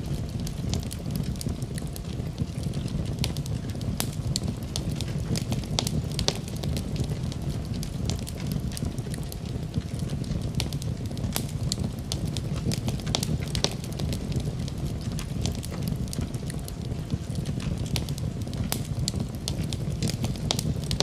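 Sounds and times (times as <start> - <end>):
fire popping and snapping: 0.0 - 21.0
fire roaring: 0.0 - 21.0.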